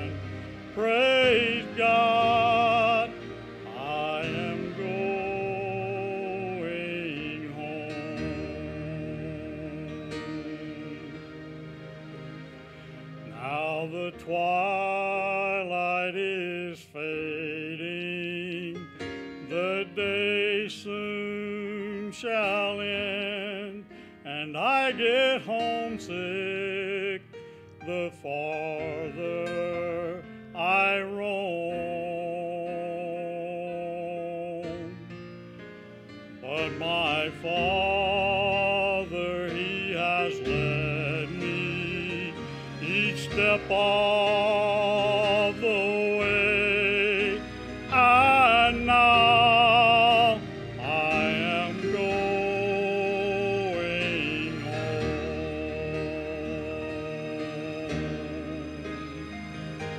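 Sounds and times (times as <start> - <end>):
man singing gospel song: 0.0 - 11.4, 13.3 - 35.2, 36.4 - 59.1
quiet instrumental accompaniment: 0.0 - 59.9.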